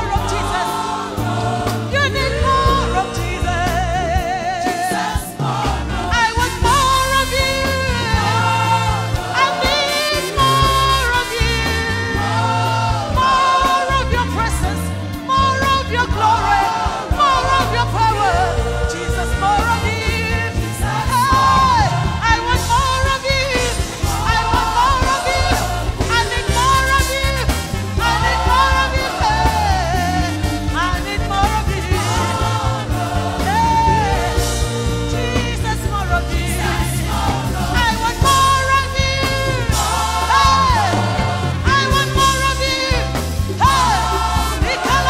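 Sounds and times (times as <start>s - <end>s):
band with steady beat: 0.0s - 45.0s
woman singing gospel: 0.0s - 45.0s.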